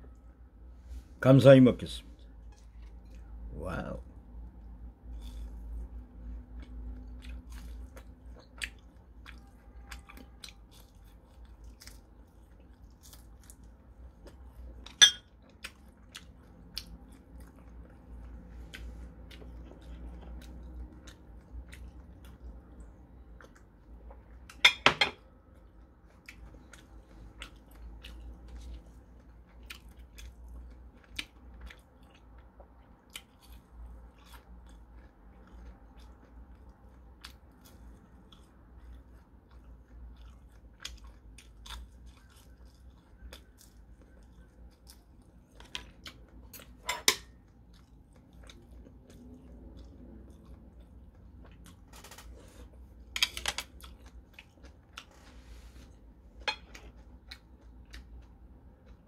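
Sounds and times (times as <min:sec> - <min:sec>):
crunchy chewing of fried shrimp: 0:02.2 - 0:24.6, 0:25.3 - 0:59.0.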